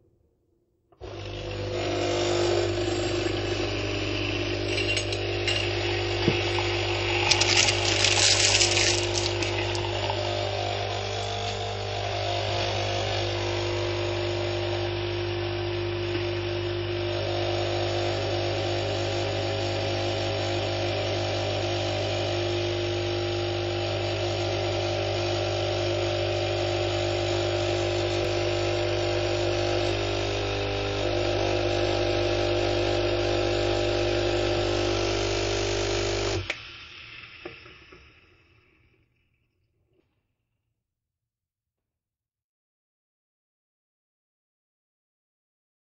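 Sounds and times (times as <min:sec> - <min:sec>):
coffee machine humming and hissing: 0:01.0 - 0:39.1.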